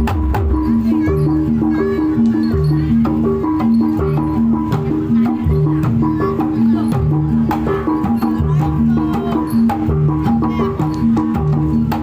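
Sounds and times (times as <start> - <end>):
gamelan pitched percussion: 0.0 - 12.0.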